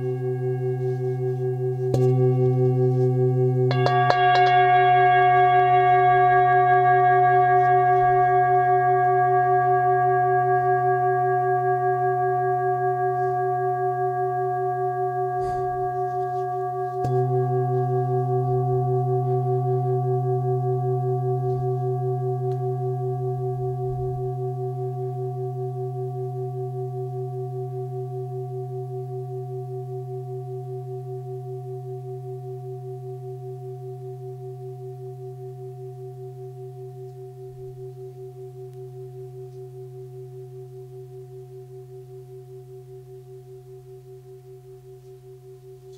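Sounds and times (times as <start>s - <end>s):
singing bowl ringing: 0.0s - 45.9s.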